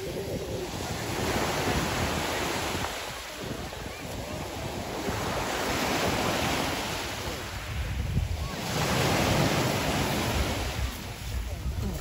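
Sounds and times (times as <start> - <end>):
surf breaking on pebble beach: 0.0 - 12.0.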